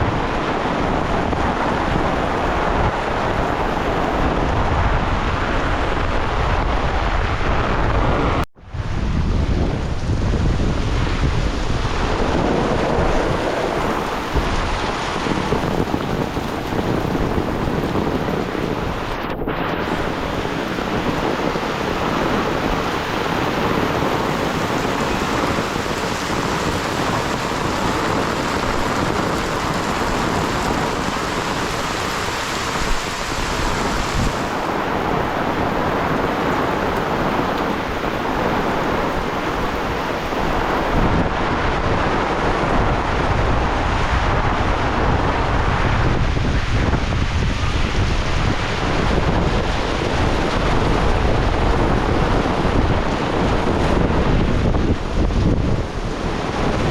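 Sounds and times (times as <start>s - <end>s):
heavy rain pouring: 0.0s - 56.9s
wind buffeting microphone: 0.0s - 56.9s.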